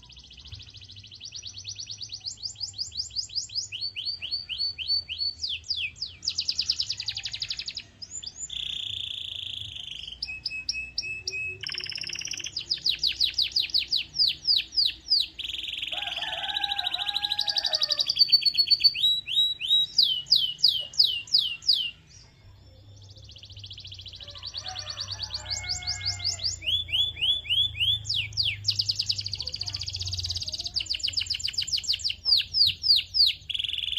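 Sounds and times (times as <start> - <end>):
canary singing: 0.0 - 33.9.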